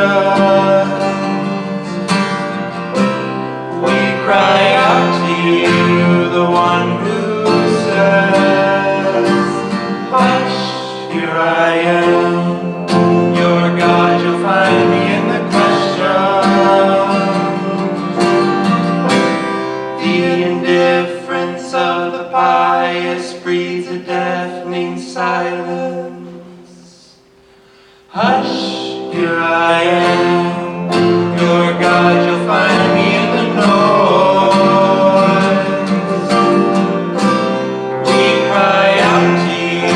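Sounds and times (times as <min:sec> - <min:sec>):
acoustic guitar: 0:00.0 - 0:39.9
person singing folk song: 0:00.0 - 0:39.9.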